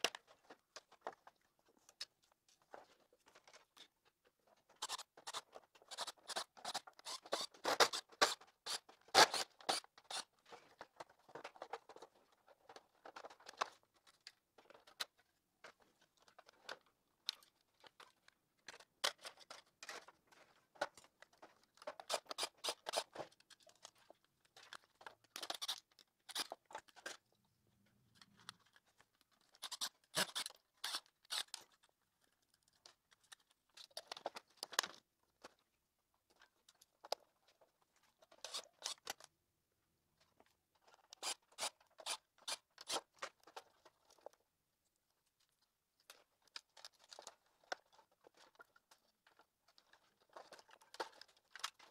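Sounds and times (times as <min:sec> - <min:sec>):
plastic parts clicking and rattling: 0:00.0 - 0:35.6, 0:36.2 - 0:39.3, 0:40.2 - 0:44.4, 0:45.3 - 0:51.9.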